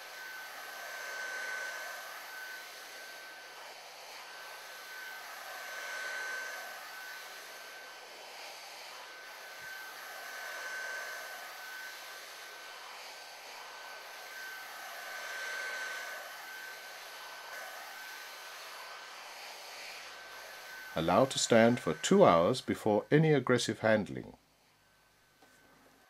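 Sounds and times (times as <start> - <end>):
heat gun blowing with fan whine: 0.0 - 22.8.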